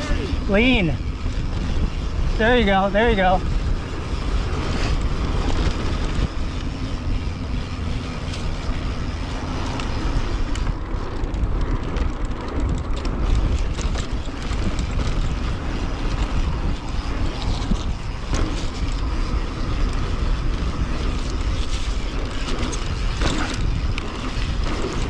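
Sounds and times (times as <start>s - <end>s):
bike rattling: 0.0s - 25.0s
tyres running over dirt: 0.0s - 25.0s
wind rushing over microphone: 0.0s - 25.0s.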